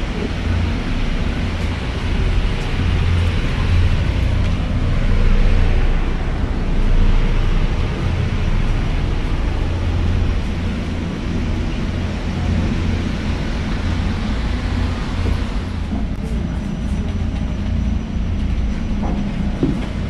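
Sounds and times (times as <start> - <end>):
ferry engines droning: 0.0 - 20.0.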